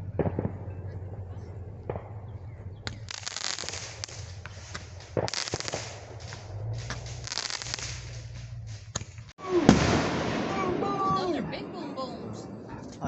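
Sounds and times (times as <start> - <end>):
fireworks crackling: 0.0 - 12.5
fireworks bangs: 0.0 - 13.0.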